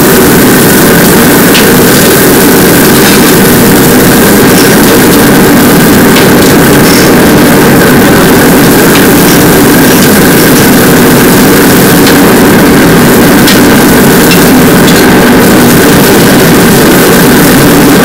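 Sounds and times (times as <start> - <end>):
gas wok burner roaring: 0.0 - 18.0.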